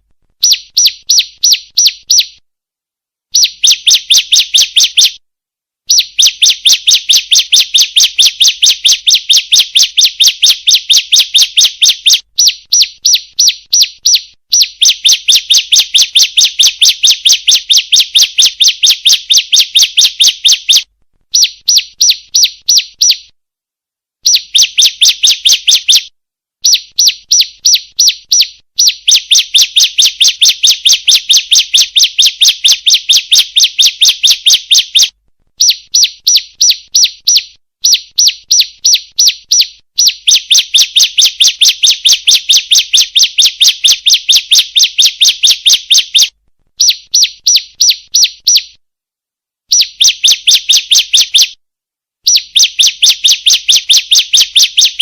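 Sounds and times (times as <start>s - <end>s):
bird sharp high chirps: 0.4s - 2.4s, 3.3s - 5.2s, 5.9s - 23.3s, 24.2s - 48.8s, 49.7s - 51.6s, 52.2s - 55.0s.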